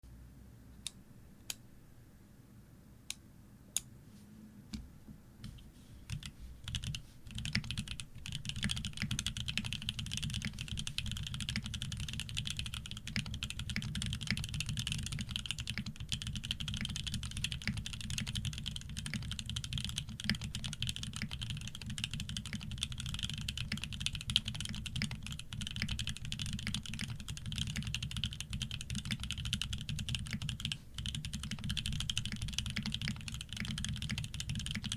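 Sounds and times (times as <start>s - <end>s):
mechanical keyboard typing: 6.1s - 34.9s.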